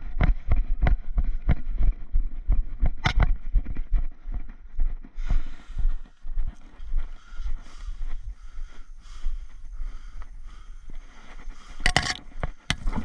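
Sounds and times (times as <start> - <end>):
running footsteps: 0.0 - 13.0.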